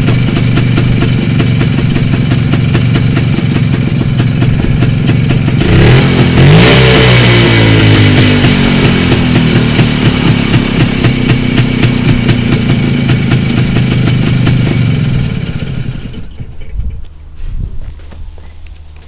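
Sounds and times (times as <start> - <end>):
scooter engine idling: 0.0 - 17.4.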